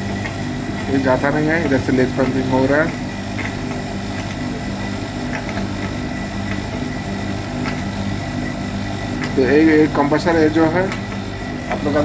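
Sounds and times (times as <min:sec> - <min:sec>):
compressor humming: 0:00.0 - 0:12.0.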